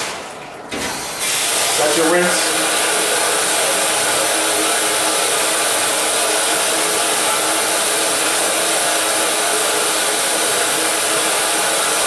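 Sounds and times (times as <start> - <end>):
dishwasher water spraying: 0.0 - 12.0.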